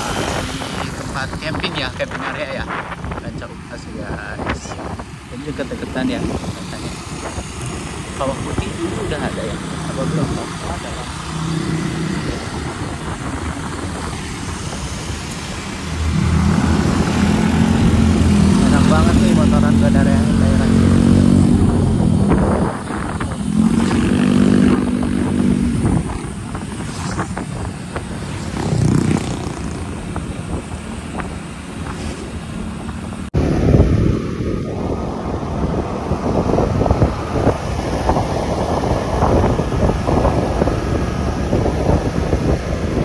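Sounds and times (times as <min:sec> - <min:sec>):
scooter engine hum: 0:00.0 - 0:43.0
wind buffeting microphone: 0:00.0 - 0:43.0.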